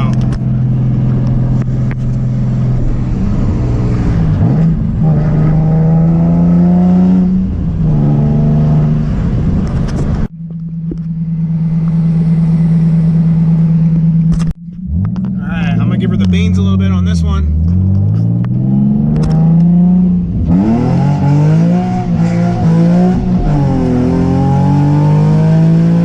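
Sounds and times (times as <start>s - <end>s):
car engine driving: 0.0s - 26.0s.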